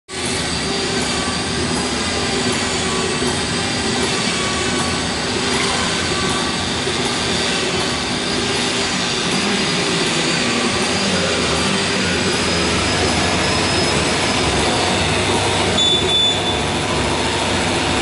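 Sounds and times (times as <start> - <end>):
machine running with hum and whine: 0.1 - 18.0.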